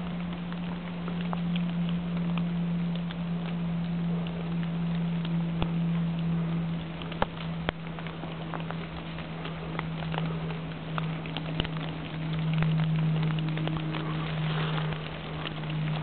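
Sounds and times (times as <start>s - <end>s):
footsteps through crackling undergrowth: 0.0s - 16.0s
steady low hum: 0.0s - 16.0s
twigs snapping: 0.0s - 16.0s.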